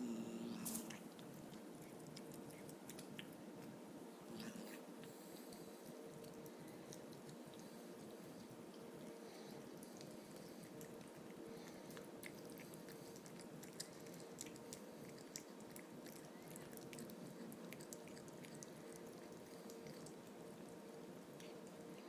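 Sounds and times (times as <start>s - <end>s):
low steady hum: 0.0s - 22.0s
cat crunching on bone: 0.7s - 22.0s.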